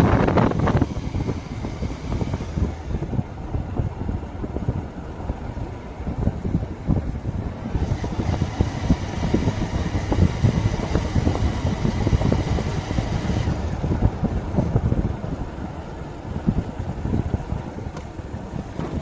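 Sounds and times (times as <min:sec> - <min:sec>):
motorcycle engine: 0:00.0 - 0:19.0
wind buffeting microphone: 0:00.0 - 0:19.0.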